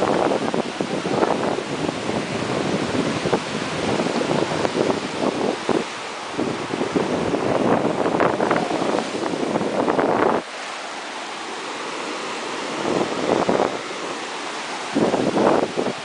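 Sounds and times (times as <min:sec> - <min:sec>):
ocean surf breaking on beach: 0:00.0 - 0:16.0
wind buffeting microphone: 0:00.0 - 0:16.0.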